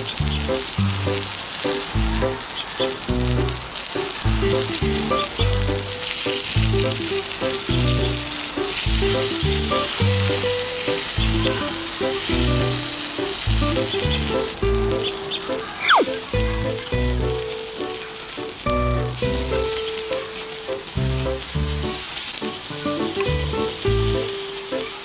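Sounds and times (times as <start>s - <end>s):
background music: 0.0s - 25.0s
octopus sizzling on hot rock: 0.0s - 25.0s.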